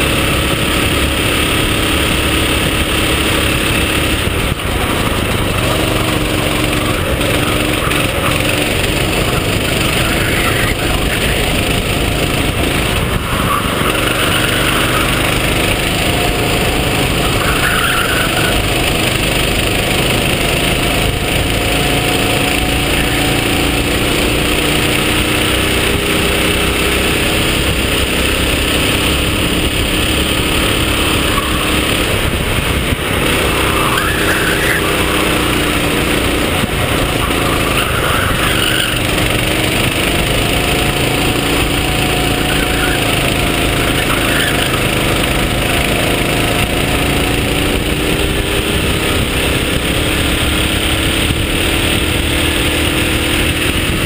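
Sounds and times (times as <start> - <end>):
kart engine revving: 0.0 - 54.0
wind and road noise: 0.0 - 54.0.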